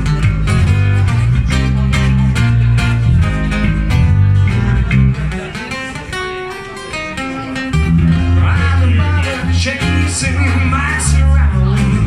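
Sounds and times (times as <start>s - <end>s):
electric bass: 0.0s - 6.4s, 7.1s - 12.0s
acoustic guitar: 0.0s - 12.0s.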